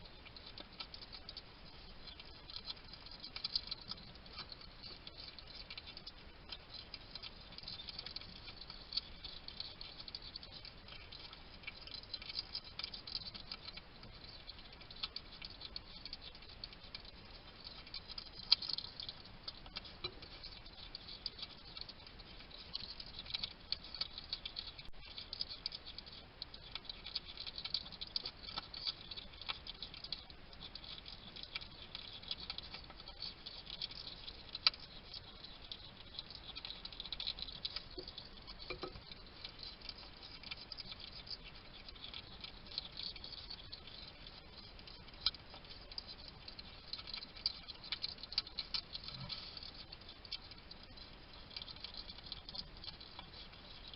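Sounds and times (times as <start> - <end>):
hedgehog crunching food: 0.0 - 53.9.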